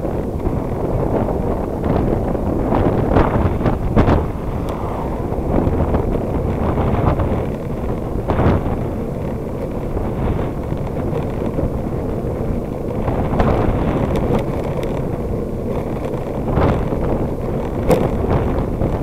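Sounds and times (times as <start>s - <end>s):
tyres rumbling on asphalt: 0.0s - 19.0s
wind buffeting microphone: 0.0s - 19.0s.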